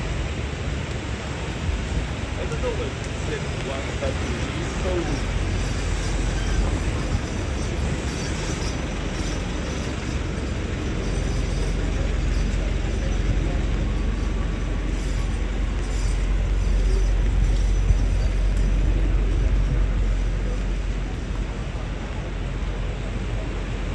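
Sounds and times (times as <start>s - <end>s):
rumble of passing traffic: 0.0s - 23.9s.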